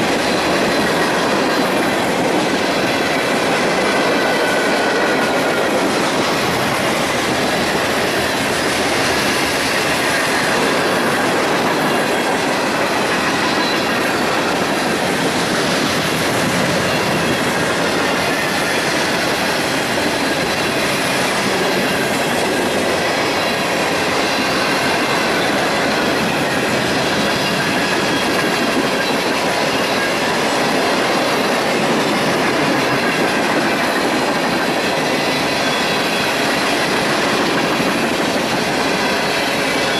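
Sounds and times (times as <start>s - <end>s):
clickety-clack over rail joints: 0.0s - 39.9s
train wheels rumbling: 0.0s - 39.9s.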